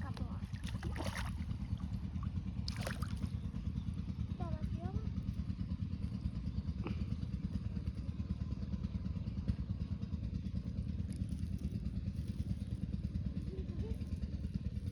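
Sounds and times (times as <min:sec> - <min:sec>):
small engine chugging: 0:00.0 - 0:14.9.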